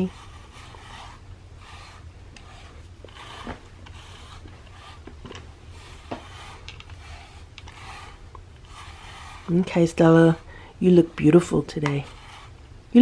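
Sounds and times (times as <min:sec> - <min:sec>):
brush rasping through cat fur: 0:00.0 - 0:13.0.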